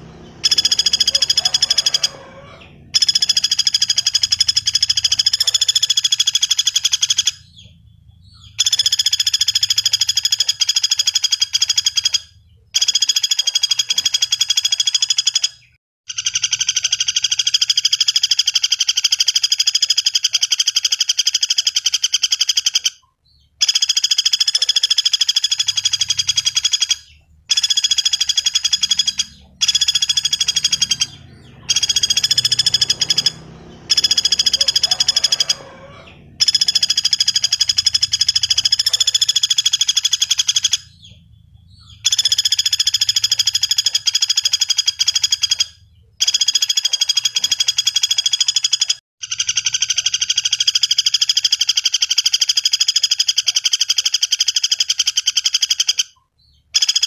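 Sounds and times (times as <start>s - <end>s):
woodpecker rattling trills: 0.0s - 57.0s.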